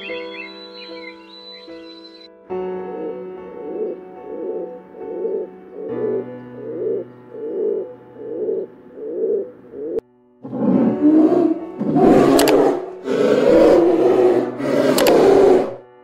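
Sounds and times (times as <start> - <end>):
pigeon giving low deep coos: 2.9 - 15.8.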